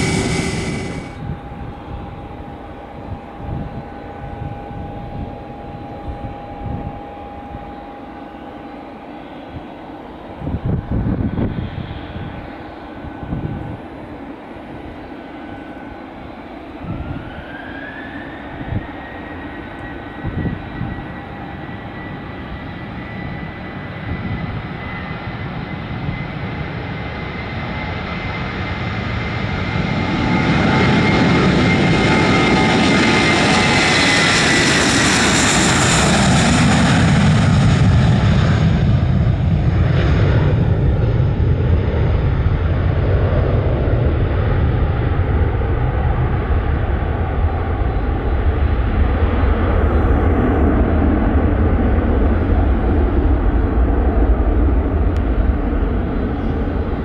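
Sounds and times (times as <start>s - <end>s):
deep jet rumble: 0.0s - 7.3s, 10.3s - 57.0s
jet engine whine: 0.0s - 57.0s.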